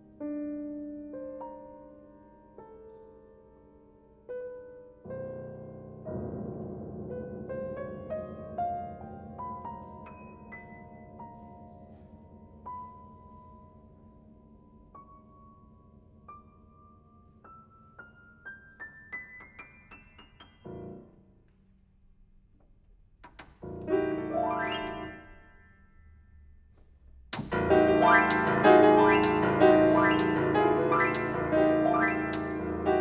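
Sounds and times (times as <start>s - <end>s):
grand piano playing: 0.0s - 21.4s, 23.1s - 33.0s.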